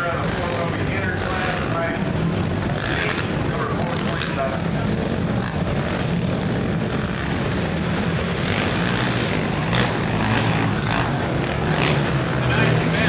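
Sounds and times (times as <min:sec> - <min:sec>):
racing quad engines droning: 0:00.0 - 0:13.0.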